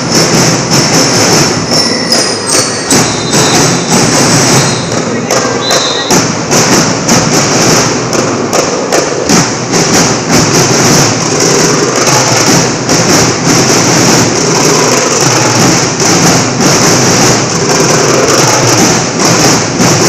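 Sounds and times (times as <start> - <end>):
marching band drumming: 0.0 - 20.0.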